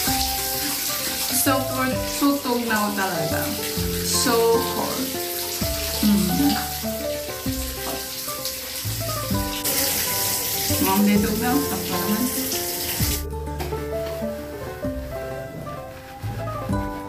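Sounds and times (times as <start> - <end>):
background music: 0.0 - 17.0
shower water running: 0.0 - 17.0.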